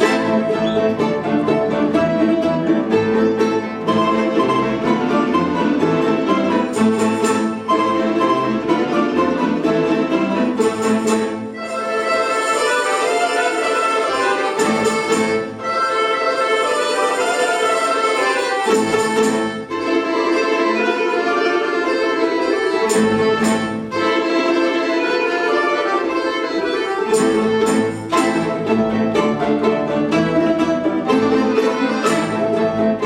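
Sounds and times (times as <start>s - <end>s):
folk instrument orchestra playing: 0.0s - 33.0s.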